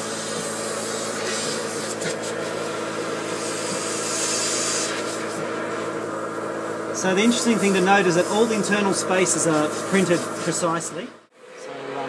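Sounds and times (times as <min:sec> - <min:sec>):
compressed air gun hissing: 0:00.0 - 0:10.7
steady machine hum: 0:00.0 - 0:12.0.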